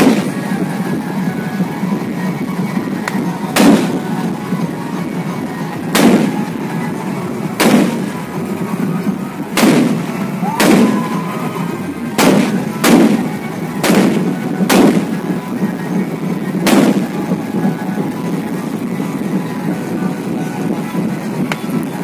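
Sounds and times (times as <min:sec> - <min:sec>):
fireworks bangs: 0:00.0 - 0:22.0
steady background noise: 0:00.0 - 0:22.0.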